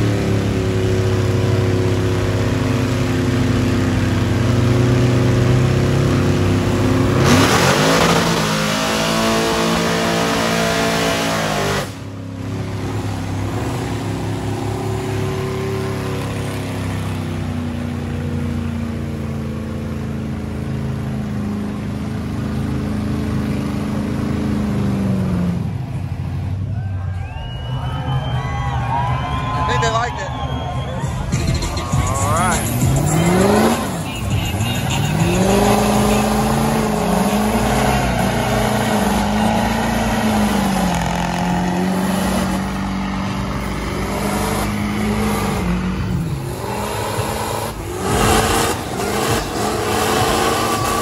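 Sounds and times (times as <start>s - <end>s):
truck engine revving: 0.0s - 51.0s.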